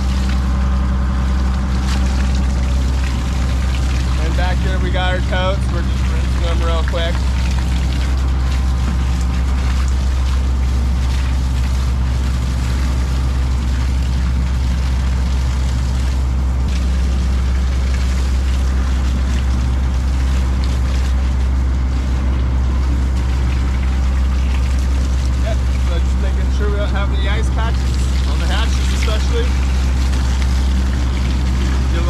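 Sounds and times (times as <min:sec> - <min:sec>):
boat engine droning: 0:00.0 - 0:32.0
wind and water hissing: 0:00.0 - 0:32.0.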